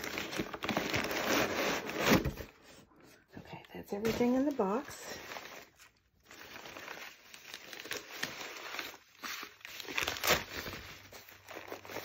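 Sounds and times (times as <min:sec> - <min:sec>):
packing paper rustling: 0:00.0 - 0:02.8, 0:03.9 - 0:12.0.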